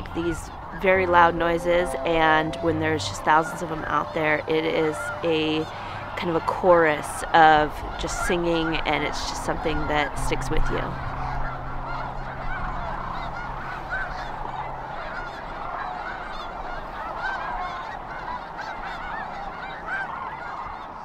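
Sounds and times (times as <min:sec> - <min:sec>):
flock of cranes calling: 0:00.0 - 0:21.0.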